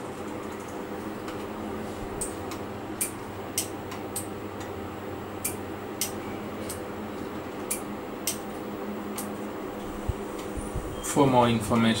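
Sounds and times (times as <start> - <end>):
low hum of bench equipment: 0.0 - 12.0.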